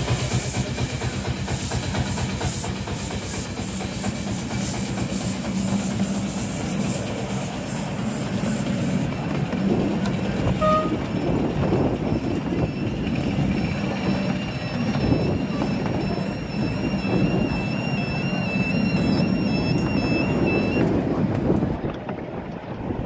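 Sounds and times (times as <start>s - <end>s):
steam hissing: 0.0s - 20.6s
train coaches rumbling and rattling: 0.0s - 23.0s.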